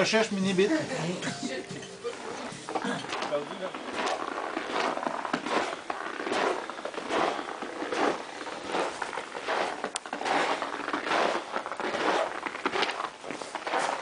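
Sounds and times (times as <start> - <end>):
footsteps crunching on snow: 2.1 - 14.0.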